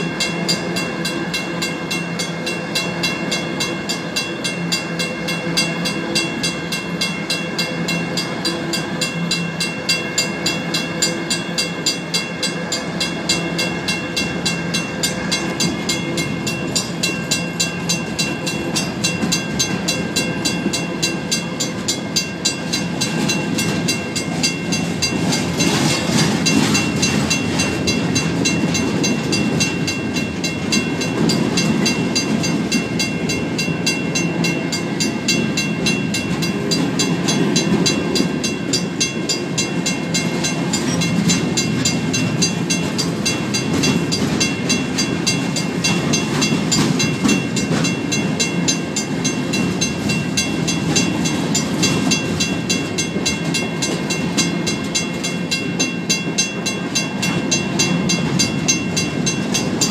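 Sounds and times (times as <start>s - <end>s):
mechanical crossing bell ringing: 0.0s - 59.9s
steel train wheels rumbling on rail: 0.0s - 59.9s.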